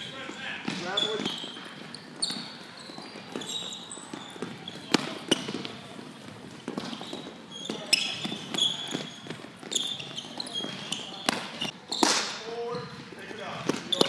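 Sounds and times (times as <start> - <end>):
shoes squeaking and thudding: 0.0 - 14.0
tennis balls bouncing: 0.6 - 13.0, 13.6 - 14.0.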